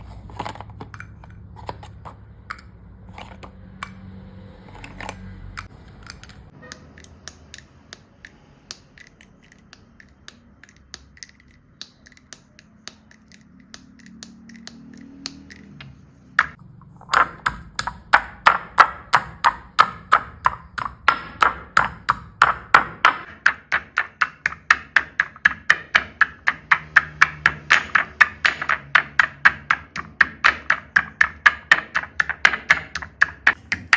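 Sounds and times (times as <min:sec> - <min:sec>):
chalk crunching clicks and taps: 0:04.8 - 0:33.9.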